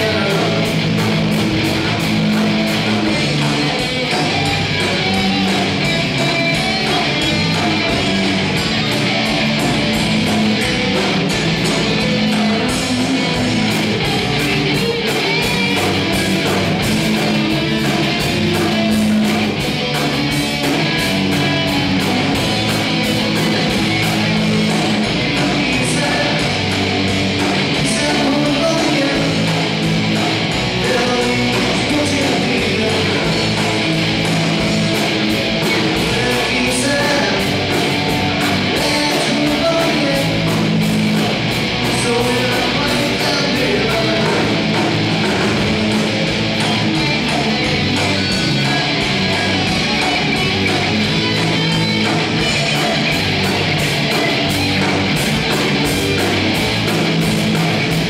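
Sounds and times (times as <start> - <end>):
bass guitar: 0.0 - 58.0
distorted electric guitars: 0.0 - 58.0
drum kit beat: 0.0 - 58.0.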